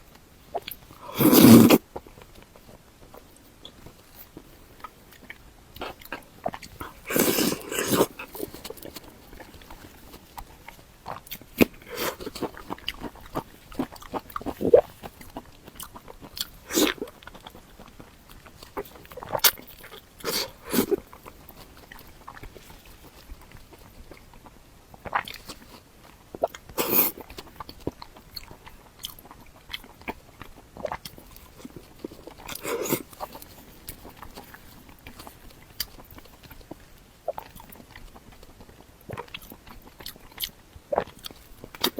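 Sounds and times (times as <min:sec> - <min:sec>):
person chewing and biting food: 0:00.5 - 0:41.9.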